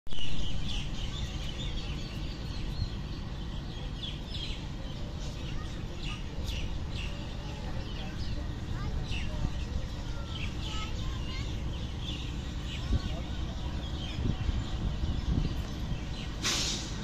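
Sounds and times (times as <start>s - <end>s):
birds chirping: 0.1s - 17.0s
diesel locomotive rumble: 0.2s - 17.0s.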